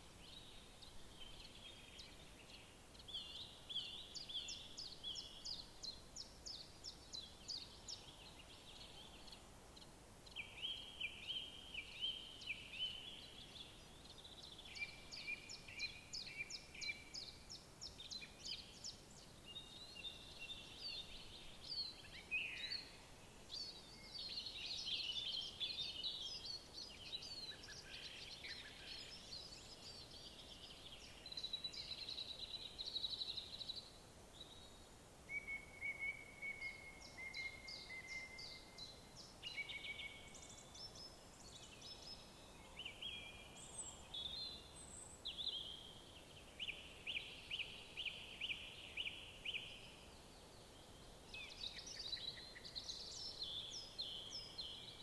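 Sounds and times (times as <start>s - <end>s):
faint background hiss: 0.0s - 55.0s
songbirds singing: 0.0s - 55.0s.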